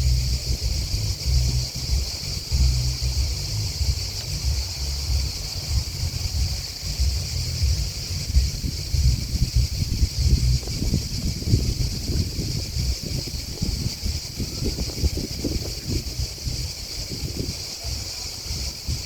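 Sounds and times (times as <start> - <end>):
insects chirping: 0.0 - 19.0
wind buffeting microphone: 0.0 - 19.0.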